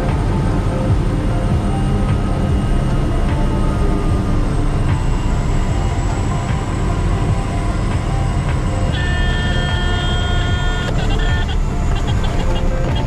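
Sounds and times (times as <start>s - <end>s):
high music notes: 0.0s - 13.0s
plane engine and propeller droning: 0.0s - 13.0s.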